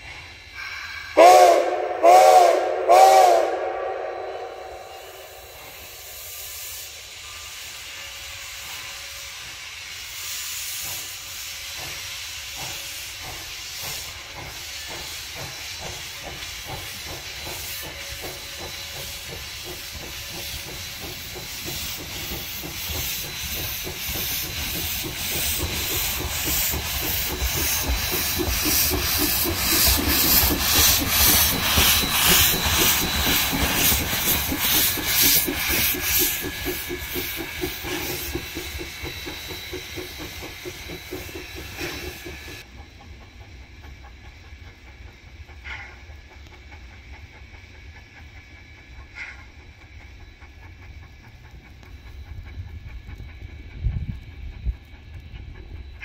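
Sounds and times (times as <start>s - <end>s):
steam hissing: 0.0s - 56.0s
steam locomotive exhaust chuffs: 0.0s - 56.0s.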